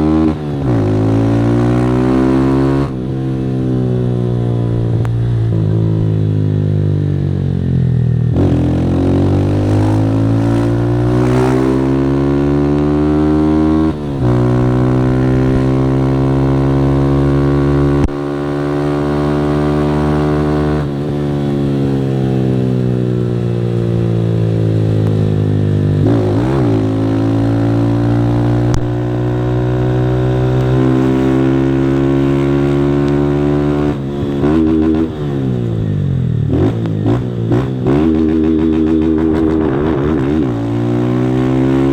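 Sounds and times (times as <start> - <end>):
motorcycle engine accelerating: 0.0 - 41.9
motorcycle throttle blips: 0.0 - 41.9.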